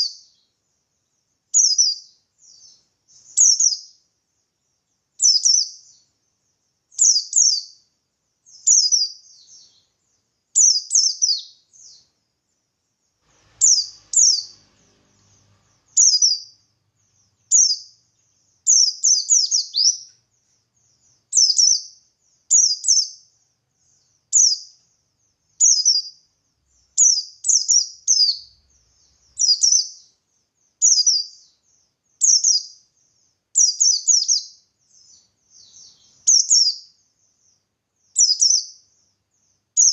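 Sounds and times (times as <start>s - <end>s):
bird chirping rapid high phrases: 1.6s - 4.0s, 5.2s - 6.1s, 6.9s - 7.8s, 8.5s - 12.2s, 13.3s - 39.9s.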